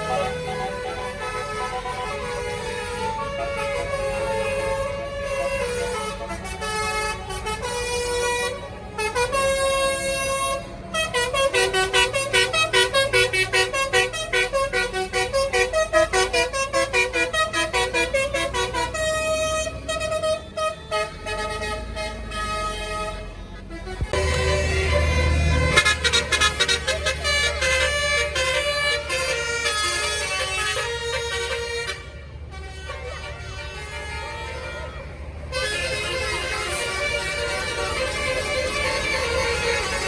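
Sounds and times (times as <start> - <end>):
multi-tone air horn playing tune: 0.0 - 40.0.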